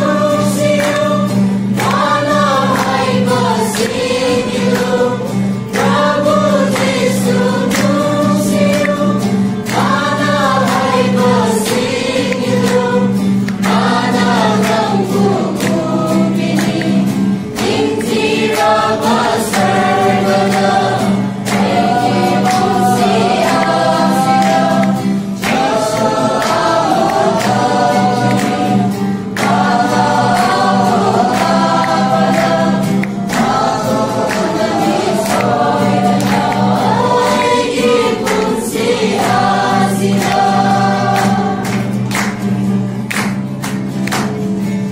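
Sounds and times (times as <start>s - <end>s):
choir singing: 0.0s - 42.4s
acoustic guitar: 0.0s - 44.9s.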